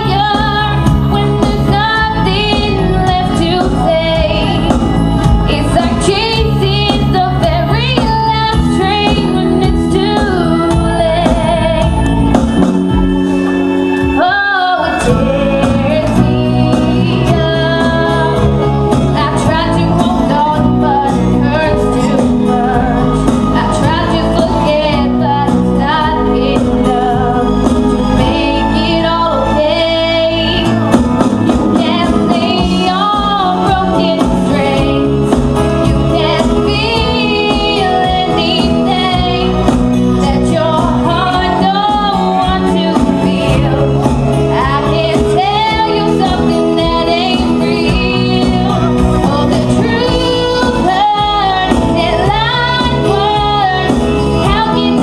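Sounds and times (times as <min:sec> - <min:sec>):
woman singing into a microphone: 0:00.0 - 0:13.0, 0:13.8 - 0:55.0
backing music: 0:00.0 - 0:55.0.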